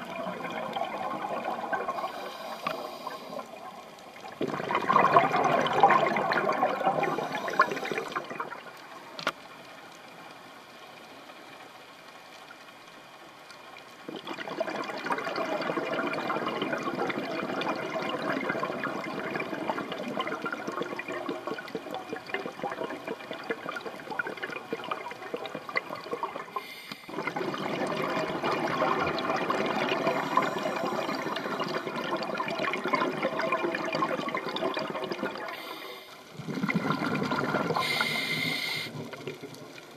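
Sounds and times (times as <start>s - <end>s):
diver's bubbles underwater: 0.0s - 9.2s, 14.1s - 39.9s.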